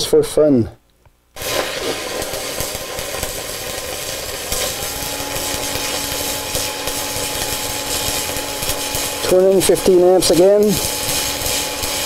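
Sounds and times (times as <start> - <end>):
welding arc crackling: 1.3 - 12.0.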